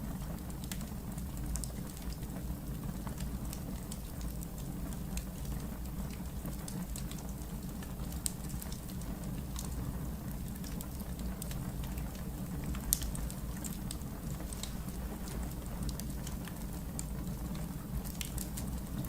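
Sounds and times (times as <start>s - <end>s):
wood fire crackling and popping: 0.1s - 19.0s.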